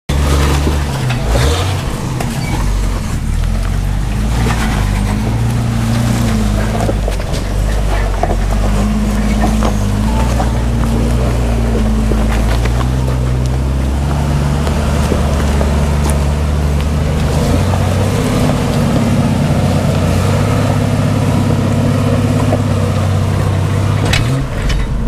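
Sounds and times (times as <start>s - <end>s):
car engine at low revs: 0.1s - 25.0s
scattered clicks and knocks: 0.1s - 25.0s.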